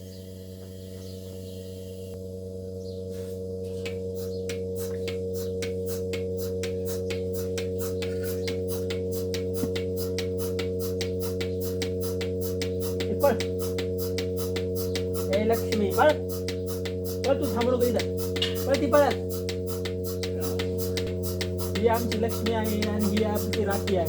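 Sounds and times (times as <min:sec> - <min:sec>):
milking equipment hum: 0:00.0 - 0:24.0
even ticking: 0:03.8 - 0:24.0.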